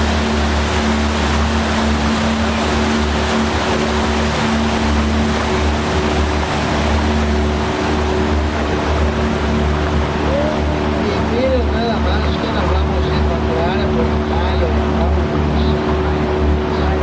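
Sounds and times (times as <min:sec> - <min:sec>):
boat motor droning: 0:00.0 - 0:17.0
water rushing: 0:00.0 - 0:17.0.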